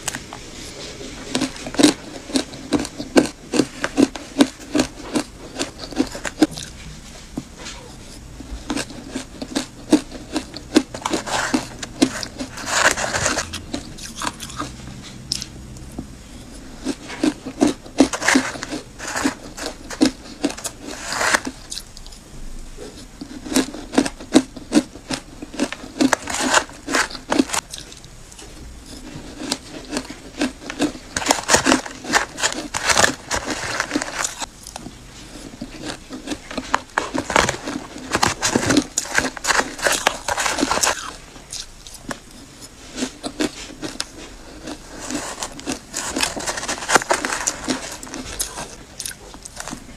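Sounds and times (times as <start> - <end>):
crunching and chewing ice: 0.0 - 49.9.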